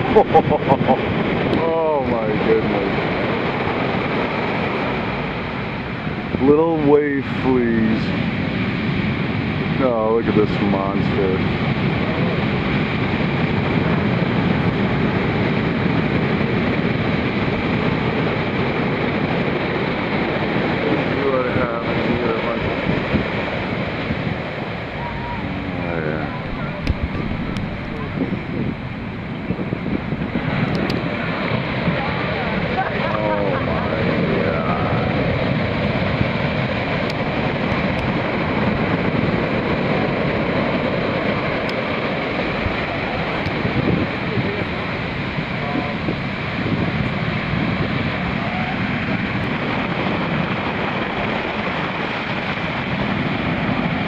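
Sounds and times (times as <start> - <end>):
large waves breaking: 0.0 - 54.0.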